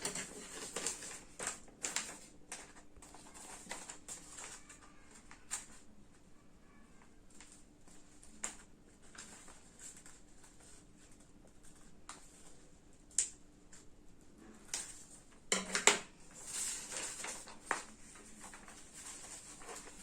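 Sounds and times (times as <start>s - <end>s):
paper rustling and crinkling: 0.0s - 13.9s, 14.6s - 20.0s.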